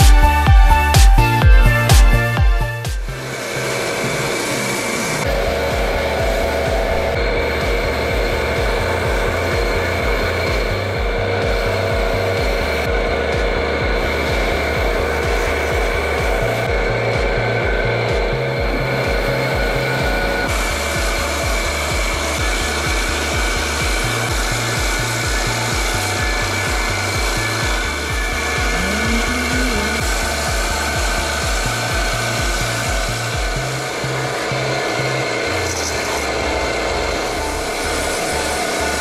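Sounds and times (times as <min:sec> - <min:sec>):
music with pulsing bass line: 0:00.0 - 0:39.0
rough hissing noise: 0:03.1 - 0:36.8.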